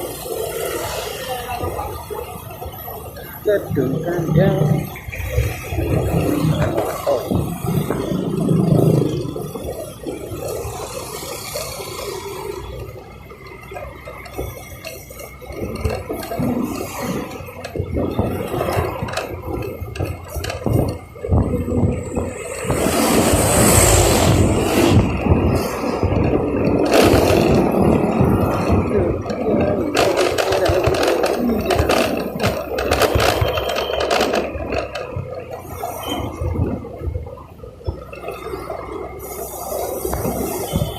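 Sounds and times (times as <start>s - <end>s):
road and traffic rumble: 0.0s - 40.9s
wind buffeting microphone: 1.4s - 40.9s
sharp clicks and rattles: 2.7s - 38.6s.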